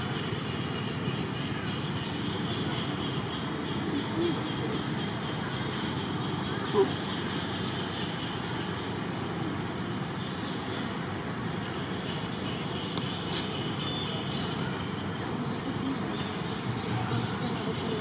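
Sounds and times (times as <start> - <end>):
outdoor hiss and rumble: 0.0 - 18.0.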